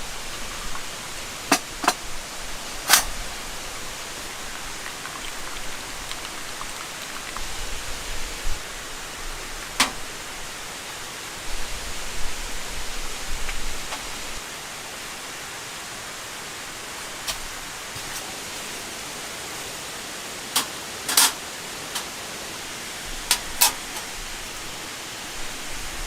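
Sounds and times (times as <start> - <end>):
falling rain hiss: 0.0 - 26.0.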